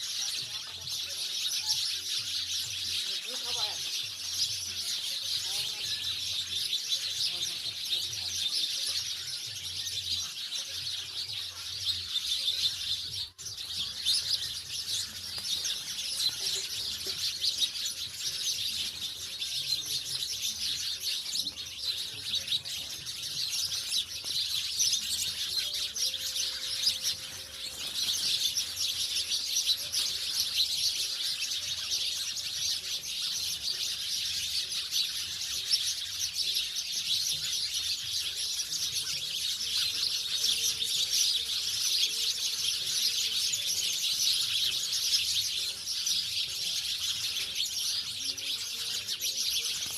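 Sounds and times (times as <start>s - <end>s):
sparrows chirping: 0.0s - 49.9s.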